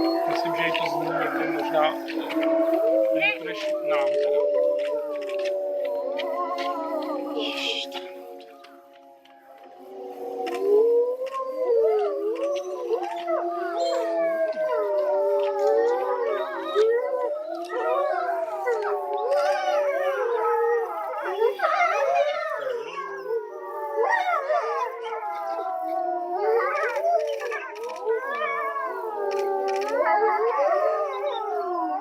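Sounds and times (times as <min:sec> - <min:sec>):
wolves howling in chorus: 0:00.0 - 0:32.0.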